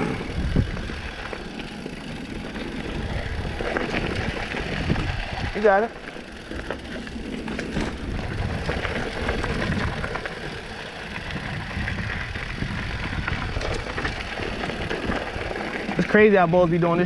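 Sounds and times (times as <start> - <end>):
bike rattling: 0.0 - 17.0
tyres crunching over gravel: 0.0 - 17.0
wind rumble on microphone: 0.0 - 17.0.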